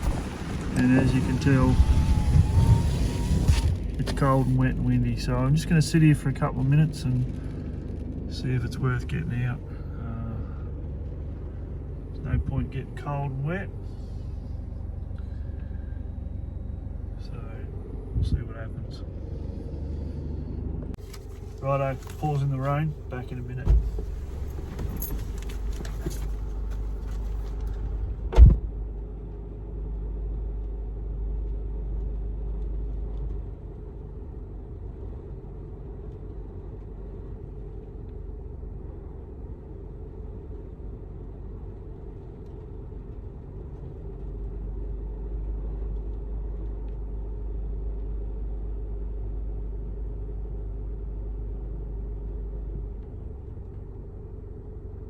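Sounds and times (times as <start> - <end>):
vehicle idling rumble: 0.0 - 55.0.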